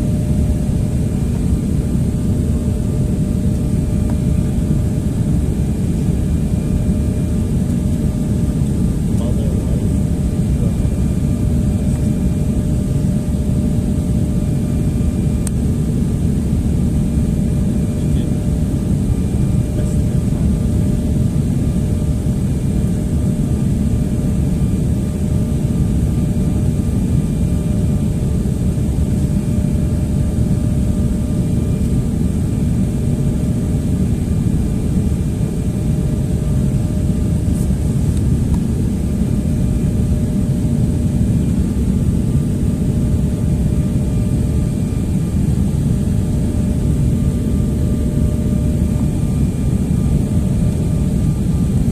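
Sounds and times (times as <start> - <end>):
airliner engines and rushing air: 0.0 - 51.9.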